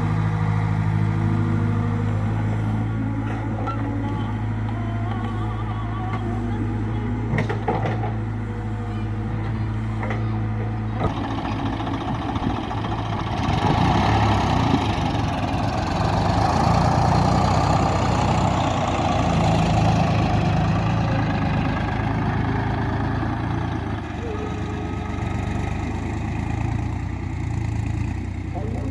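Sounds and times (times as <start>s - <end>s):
heavy machinery engine running: 0.0s - 28.9s.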